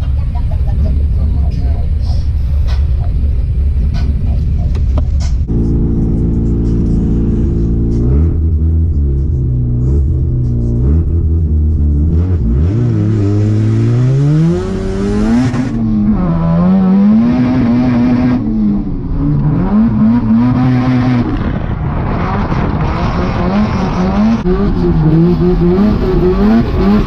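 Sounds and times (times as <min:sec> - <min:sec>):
car engine revving: 0:03.4 - 0:27.0.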